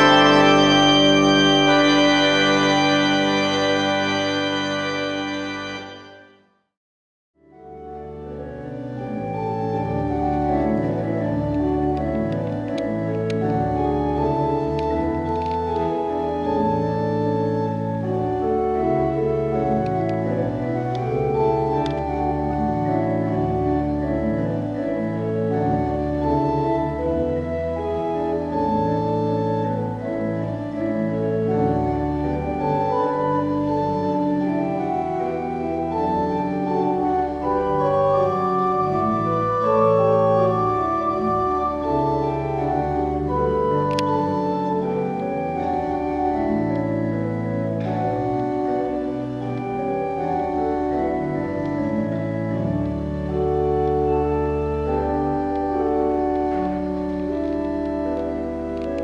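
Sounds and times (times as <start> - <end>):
church organ playing a hymn: 0.0 - 6.5, 7.4 - 59.0.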